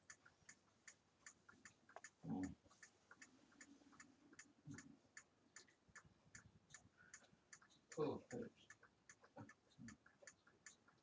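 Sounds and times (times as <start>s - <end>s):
wall clock ticking: 0.0s - 11.0s.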